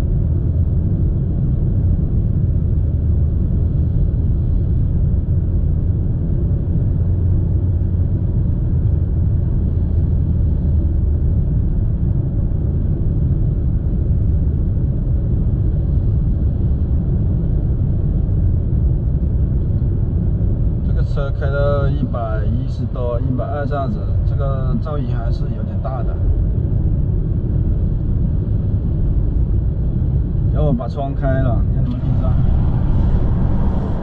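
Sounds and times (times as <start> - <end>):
road and wind noise in car: 0.0 - 34.0.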